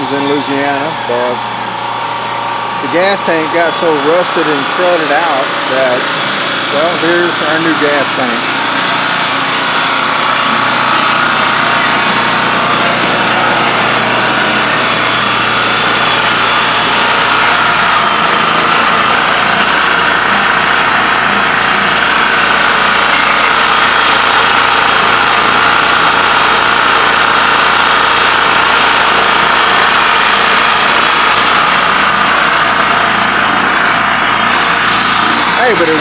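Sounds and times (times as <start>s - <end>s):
generator engine running: 0.0s - 36.0s.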